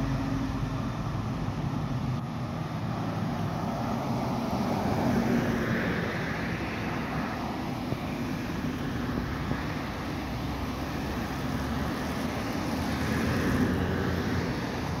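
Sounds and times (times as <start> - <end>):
traffic passing close by: 0.0 - 15.0.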